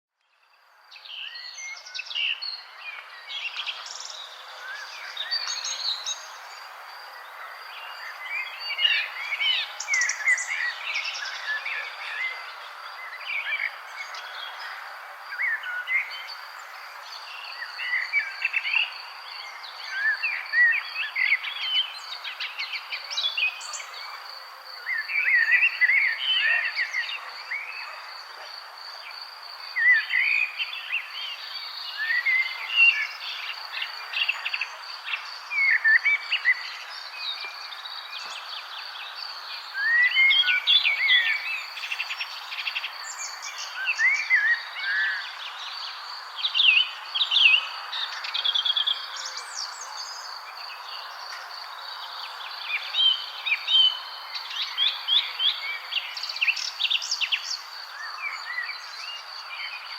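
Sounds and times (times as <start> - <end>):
songbirds chirping and singing: 0.2 - 59.9.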